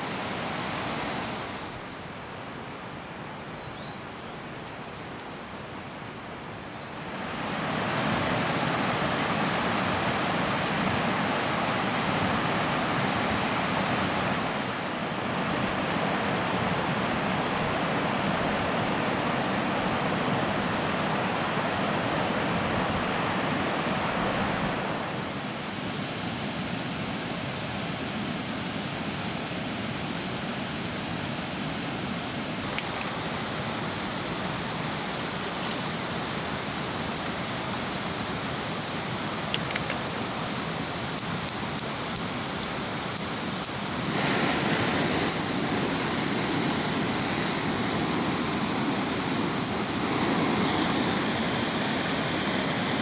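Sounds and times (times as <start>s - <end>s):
flowing water rushing: 0.0s - 2.2s, 7.0s - 53.0s.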